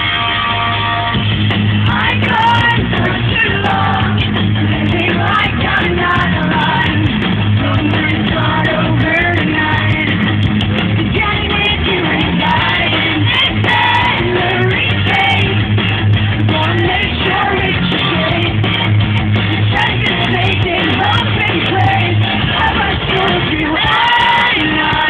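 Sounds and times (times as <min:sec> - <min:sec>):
rock band playing: 0:00.0 - 0:25.0
woman singing: 0:01.9 - 0:10.3, 0:11.0 - 0:15.6, 0:16.5 - 0:18.9, 0:19.6 - 0:25.0.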